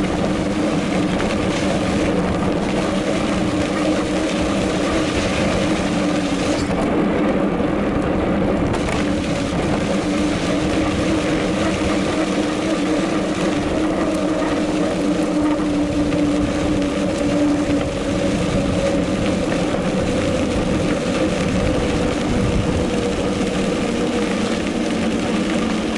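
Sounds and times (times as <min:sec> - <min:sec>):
bike tyres rumbling on gravel: 0:00.0 - 0:25.9
wind on microphone: 0:00.0 - 0:25.9.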